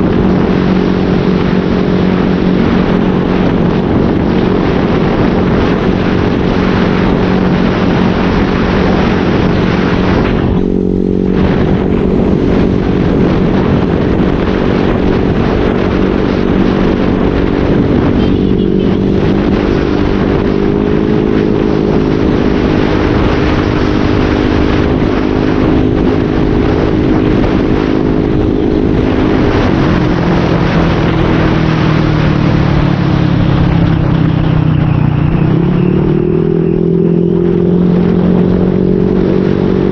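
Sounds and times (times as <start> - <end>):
motorcycle exhaust cruising: 0.0 - 39.9
wind rush over microphone: 0.0 - 39.9.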